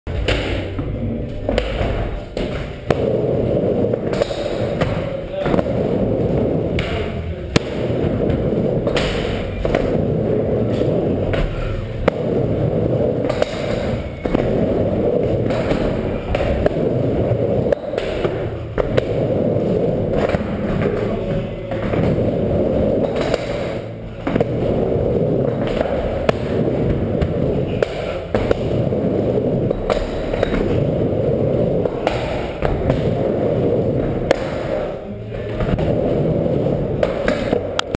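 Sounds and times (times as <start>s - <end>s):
skateboard wheels rolling: 0.3s - 37.9s.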